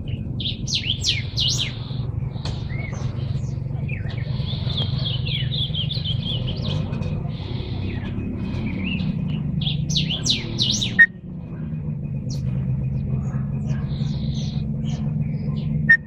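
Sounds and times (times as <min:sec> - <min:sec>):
cage birds chirping and singing: 0:00.0 - 0:16.0
steady low hum: 0:00.0 - 0:16.0.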